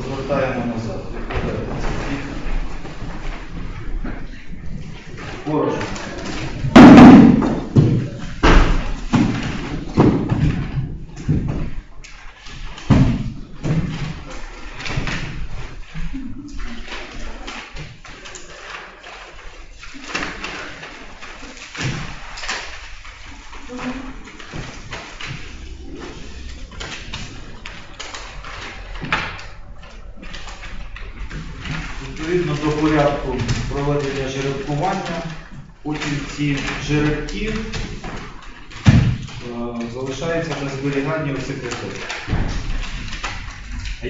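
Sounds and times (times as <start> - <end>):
papers rustling: 0.0 - 44.0.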